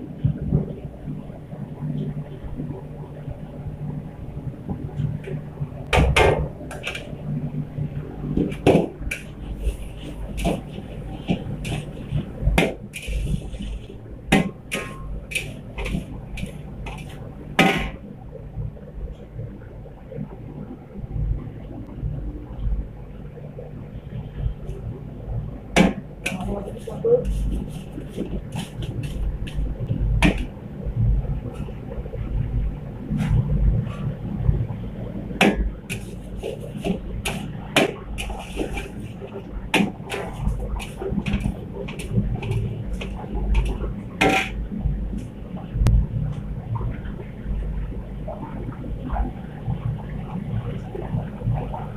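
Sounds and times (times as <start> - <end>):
low steady rumble: 0.0 - 51.9.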